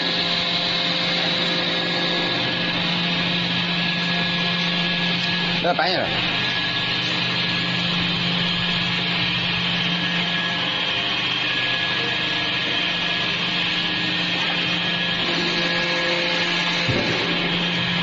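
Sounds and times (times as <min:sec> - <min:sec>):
hydraulic power unit droning: 0:00.0 - 0:18.0.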